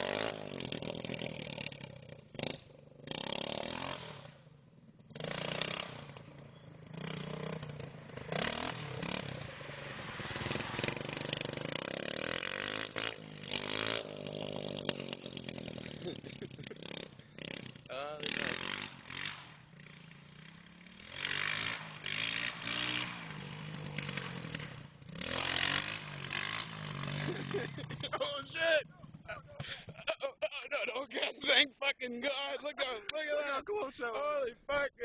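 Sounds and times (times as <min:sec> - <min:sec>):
motorcycle engine revving: 0:00.0 - 0:30.1.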